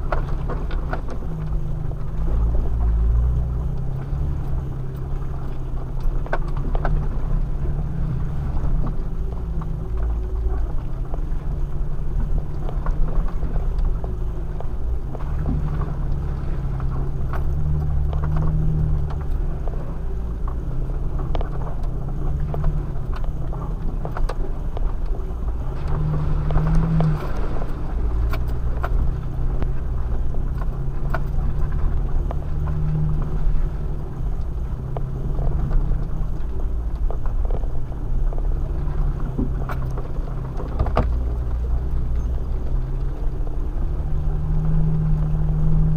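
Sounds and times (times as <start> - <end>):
vehicle engine driving slowly: 0.0 - 45.9.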